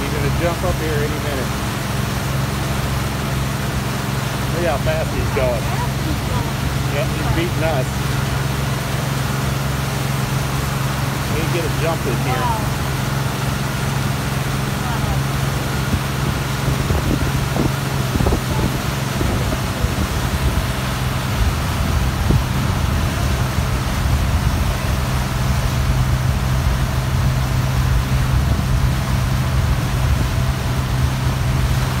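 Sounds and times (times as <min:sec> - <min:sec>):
motorboat engine drone: 0:00.0 - 0:32.0
wind: 0:00.0 - 0:32.0.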